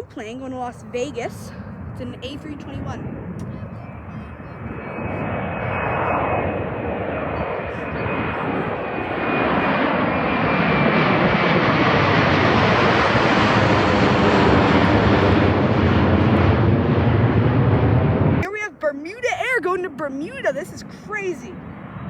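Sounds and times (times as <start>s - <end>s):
jet airliner engine roar: 0.0s - 22.0s.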